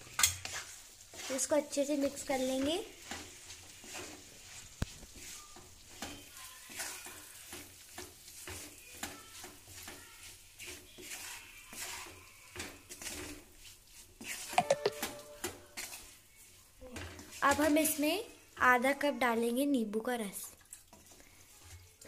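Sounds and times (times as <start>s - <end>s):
spatula scraping in pan: 0.0s - 14.6s, 15.2s - 19.0s, 20.7s - 22.0s.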